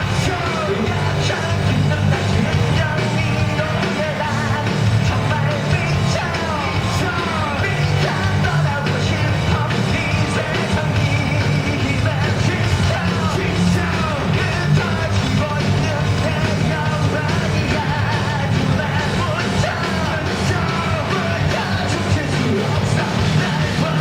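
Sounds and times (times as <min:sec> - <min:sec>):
live rock band playing: 0:00.0 - 0:24.0
yelled lead vocal: 0:00.0 - 0:24.0.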